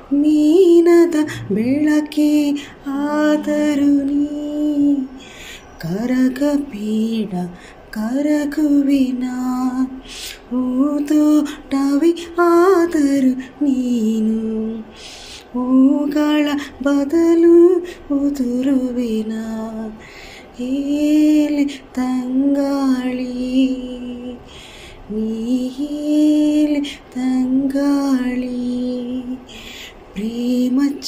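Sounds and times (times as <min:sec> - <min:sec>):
woman singing unaccompanied: 0:00.0 - 0:31.0.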